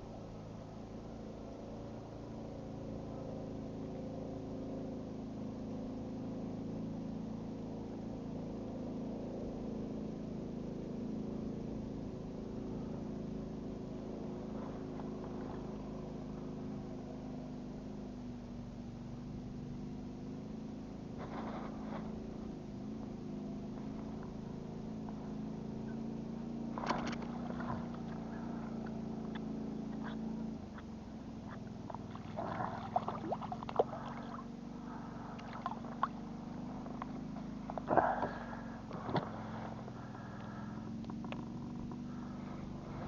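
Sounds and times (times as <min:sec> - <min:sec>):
engine humming steadily: 0:00.0 - 0:43.0.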